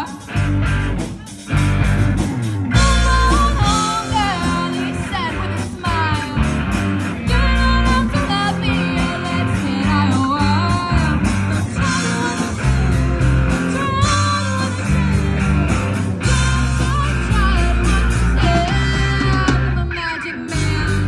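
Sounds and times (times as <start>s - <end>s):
woman singing: 0.0s - 0.4s, 2.6s - 21.0s
bass guitar: 0.0s - 21.0s
drum kit: 0.0s - 21.0s
electric guitars: 0.0s - 21.0s.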